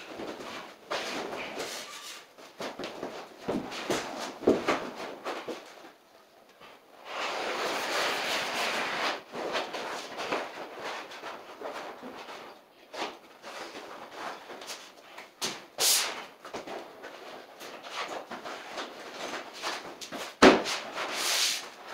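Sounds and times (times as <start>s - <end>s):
vinyl sheet rustling and scraping: 0.0s - 6.0s, 6.6s - 21.9s.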